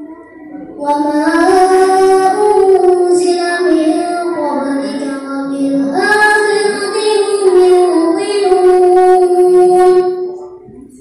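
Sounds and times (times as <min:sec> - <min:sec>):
boy reciting melodically: 0:00.0 - 0:11.0.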